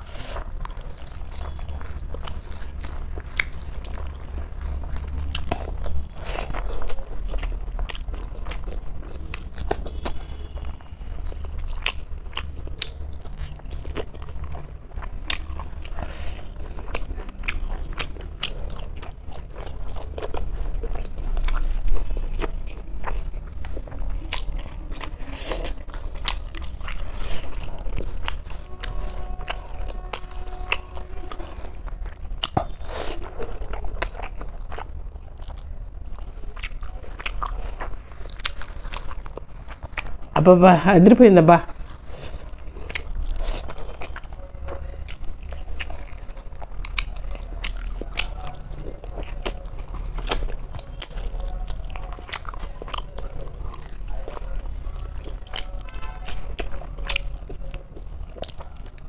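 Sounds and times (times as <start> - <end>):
person chewing and crunching food: 0.0 - 59.0.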